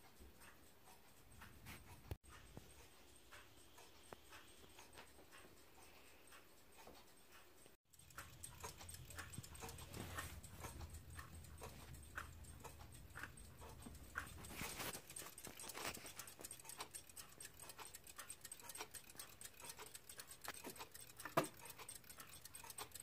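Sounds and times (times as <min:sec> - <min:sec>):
clocks ticking: 0:00.0 - 0:23.0.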